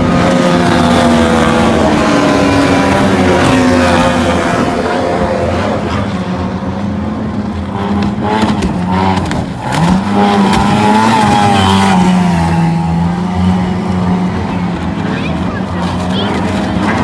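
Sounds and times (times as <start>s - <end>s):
racing boat engines running hard: 0.0s - 17.0s.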